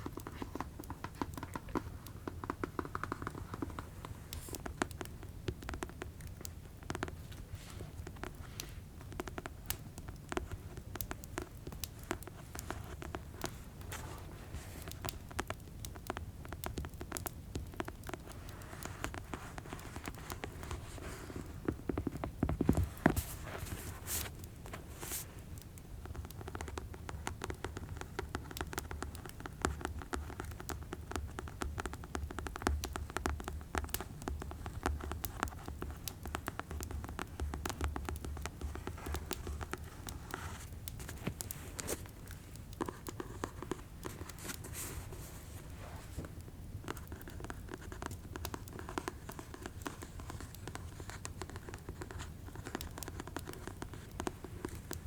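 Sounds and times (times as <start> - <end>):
fingernail tapping and scratching: 0.0 - 55.0.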